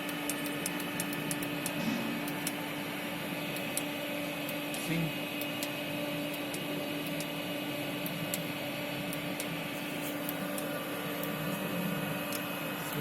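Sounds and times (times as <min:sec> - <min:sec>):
steady electric hum: 0:00.0 - 0:13.0.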